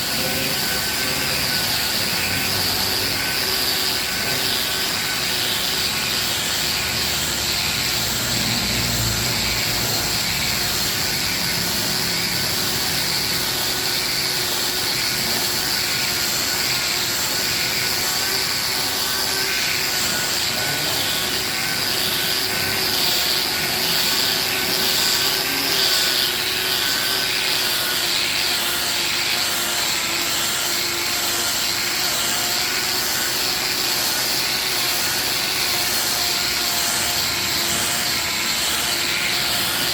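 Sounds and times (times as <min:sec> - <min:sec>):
angle grinder whining: 0:00.0 - 0:39.9
disc rubbing on wood: 0:00.0 - 0:39.9.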